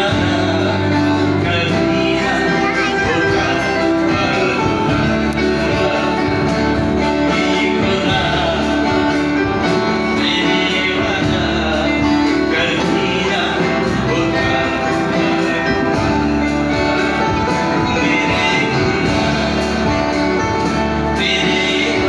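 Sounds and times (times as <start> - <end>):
guitar playing: 0.0 - 22.0
people singing: 0.0 - 22.0.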